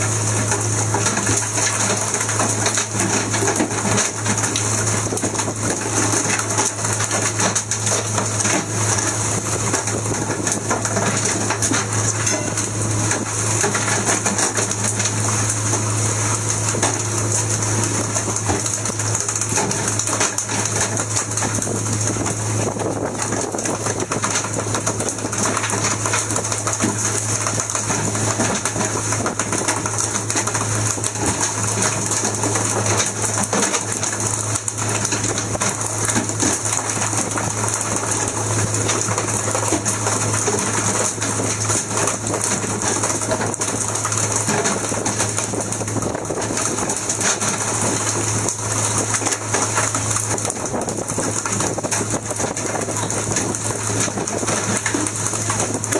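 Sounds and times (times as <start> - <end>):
boat engine rattling: 0.0 - 55.9.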